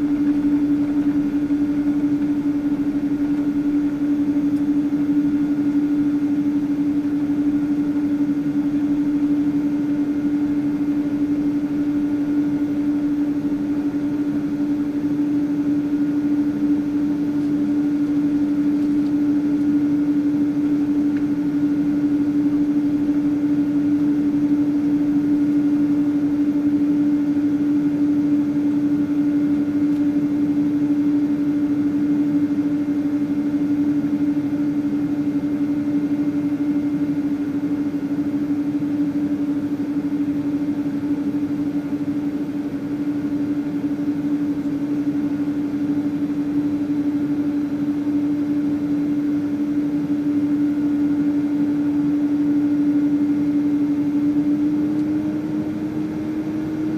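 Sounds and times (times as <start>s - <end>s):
airliner cabin low hum: 0.0s - 56.9s.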